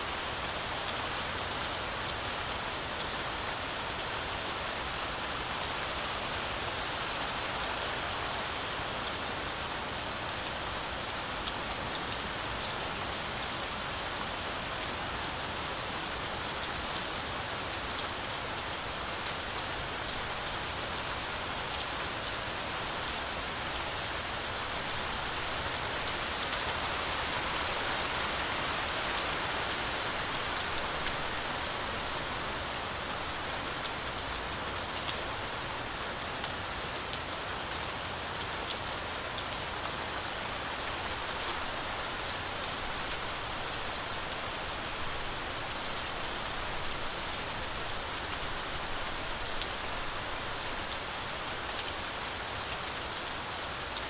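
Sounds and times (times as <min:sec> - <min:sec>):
heavy rain through trees: 0:00.0 - 0:54.0.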